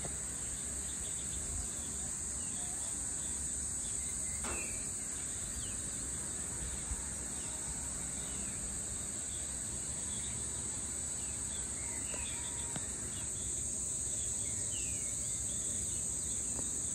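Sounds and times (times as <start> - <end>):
high-pitched insect chorus: 0.0 - 16.9.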